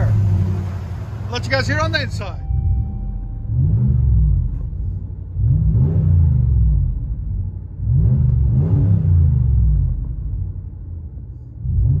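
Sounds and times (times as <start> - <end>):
engine revving: 0.0 - 10.5, 11.6 - 12.0.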